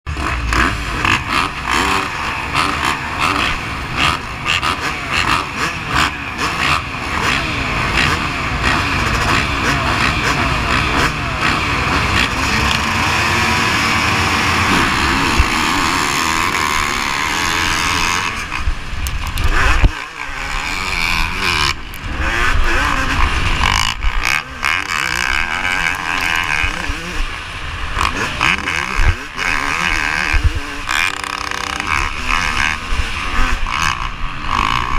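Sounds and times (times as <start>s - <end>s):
motocross engine revving: 0.1s - 34.9s.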